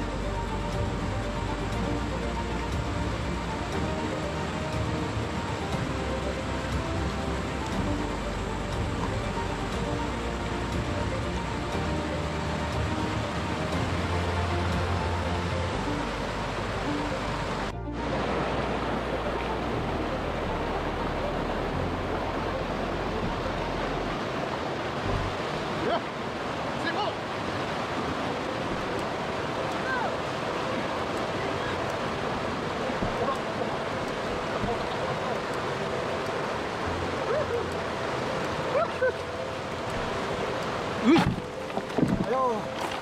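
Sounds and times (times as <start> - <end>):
river rapids rushing over rocks: 0.0 - 43.0.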